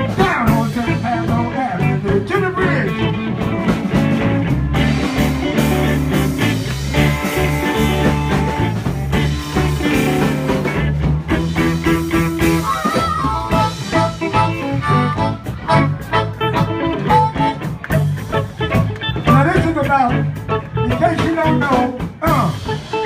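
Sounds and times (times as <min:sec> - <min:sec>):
electric guitar: 0:00.0 - 0:23.0
live blues band playing: 0:00.0 - 0:23.0
steady bass line: 0:00.0 - 0:23.0.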